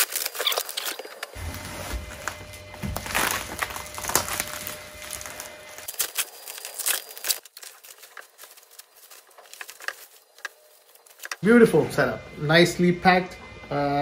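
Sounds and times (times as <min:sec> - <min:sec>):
packaging crinkling and tearing: 0:00.0 - 0:11.4.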